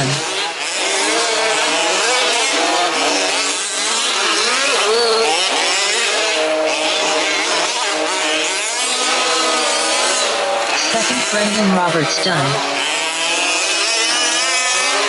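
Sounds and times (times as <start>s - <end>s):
small two-stroke engines buzzing: 0.0s - 15.0s.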